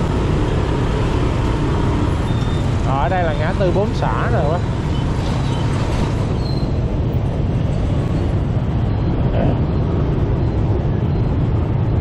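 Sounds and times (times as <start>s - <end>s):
street traffic: 0.0s - 12.0s
wind rumble on microphone: 0.0s - 12.0s.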